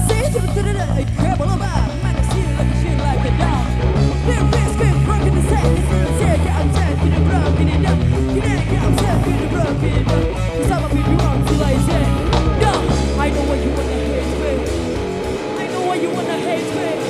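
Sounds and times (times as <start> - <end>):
lead guitar bending notes: 0.0 - 17.0
live rock band instrumental: 0.0 - 17.0.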